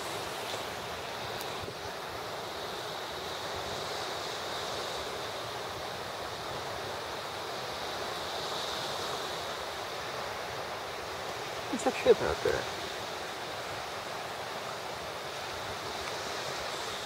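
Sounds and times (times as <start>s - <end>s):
small waves on beach: 0.0s - 17.0s.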